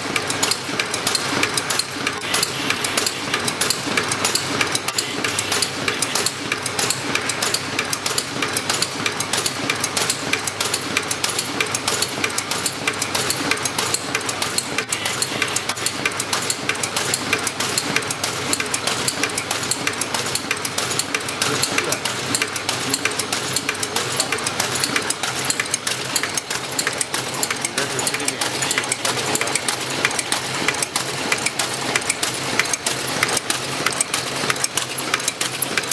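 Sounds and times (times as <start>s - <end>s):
packaging machine clattering: 0.0s - 35.9s.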